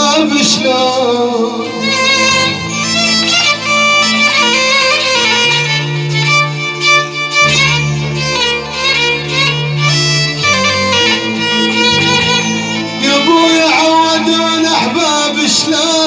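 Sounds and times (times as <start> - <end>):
held bass notes: 0.0 - 16.0
wavering violin-like melody: 0.0 - 16.0.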